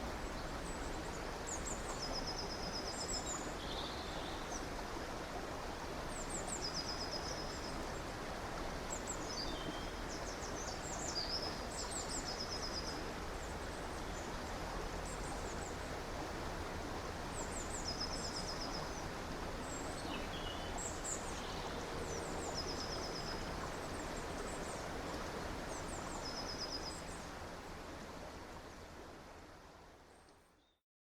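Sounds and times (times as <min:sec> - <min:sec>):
stream running water: 0:00.0 - 0:30.8.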